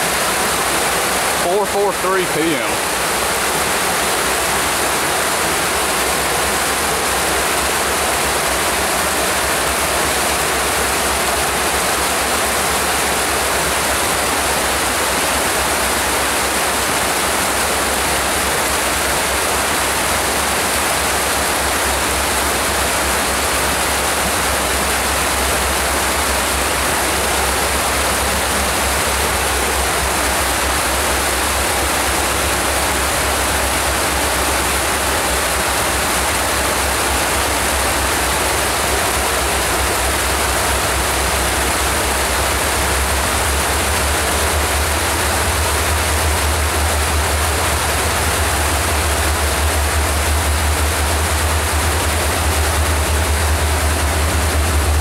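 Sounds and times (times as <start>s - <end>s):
whitewater rapids rushing: 0.0s - 55.0s.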